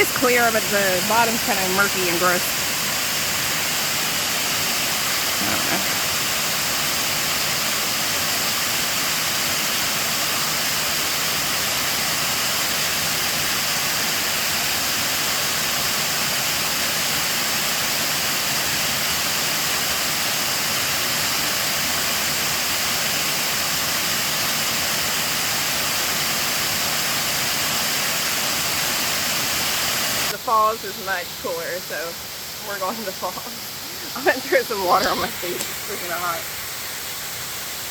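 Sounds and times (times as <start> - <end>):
water rushing over dam: 0.0 - 37.9.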